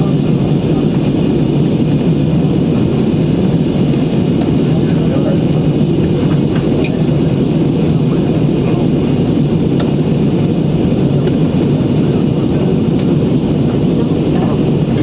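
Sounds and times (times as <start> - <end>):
aeroplane cabin engine roar: 0.0 - 15.0.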